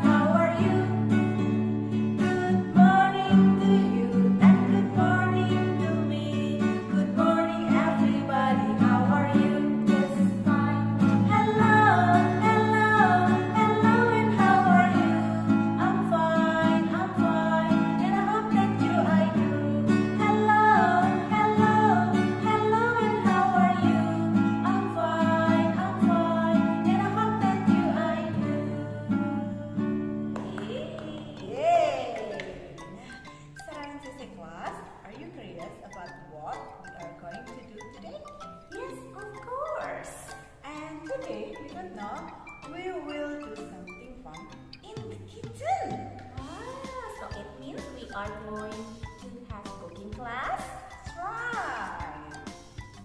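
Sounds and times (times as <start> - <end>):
woman singing: 0.0 - 1.6, 2.2 - 33.1, 33.8 - 52.6
acoustic guitar strumming: 0.0 - 53.0.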